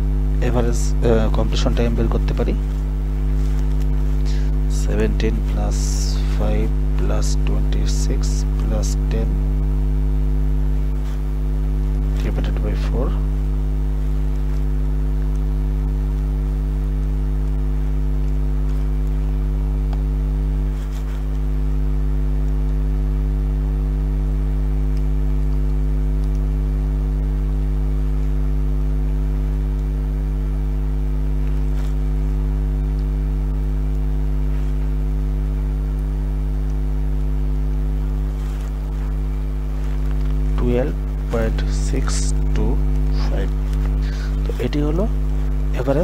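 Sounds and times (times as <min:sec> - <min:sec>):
electrical hum: 0:00.0 - 0:46.0.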